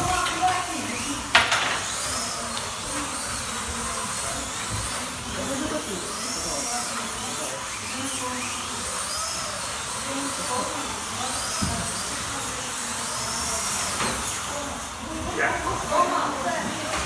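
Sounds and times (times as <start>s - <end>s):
slot car motors whining: 0.0s - 17.0s.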